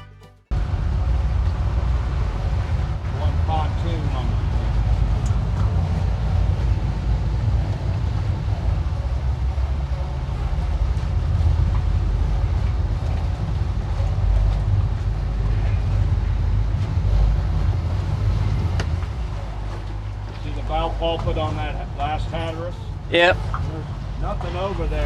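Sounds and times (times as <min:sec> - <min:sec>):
boat engine rumbling: 0:00.0 - 0:25.0
wind noise on microphone: 0:00.5 - 0:25.0.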